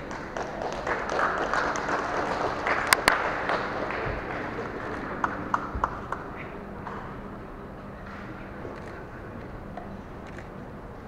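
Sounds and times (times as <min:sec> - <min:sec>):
crowd murmur in echoing hall: 0:00.0 - 0:11.0.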